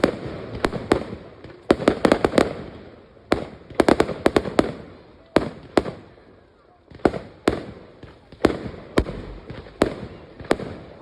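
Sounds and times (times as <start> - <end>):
fireworks bangs: 0.0 - 11.0
rumbling fireworks tail: 0.0 - 11.0.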